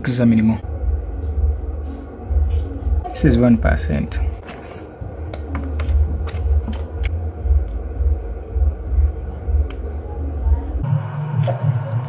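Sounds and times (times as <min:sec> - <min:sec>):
low pulsing rumble: 0:00.6 - 0:12.0.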